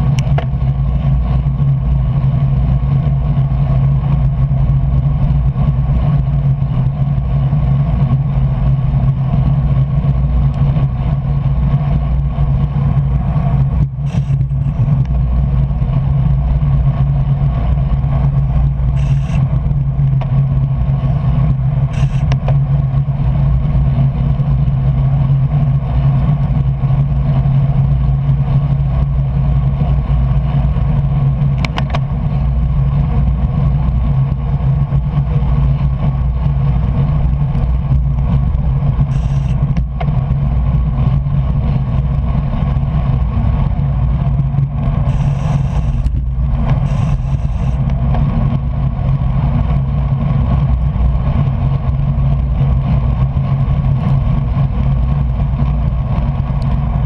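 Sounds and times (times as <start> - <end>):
loud wind rumble on microphone: 0.0 - 57.0.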